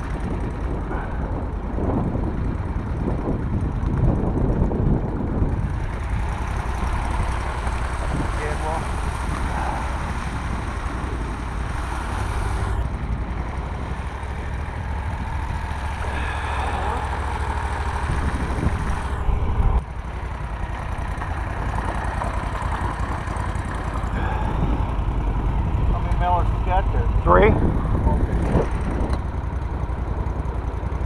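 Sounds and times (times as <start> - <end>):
boat motor running: 0.0 - 31.0.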